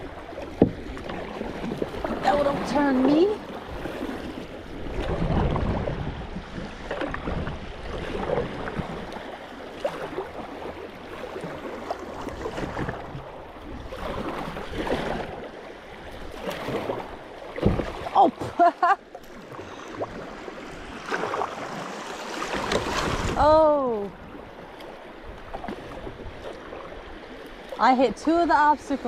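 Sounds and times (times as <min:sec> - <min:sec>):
creek water rushing: 0:00.0 - 0:29.0
paddle strokes splashing: 0:00.0 - 0:29.0.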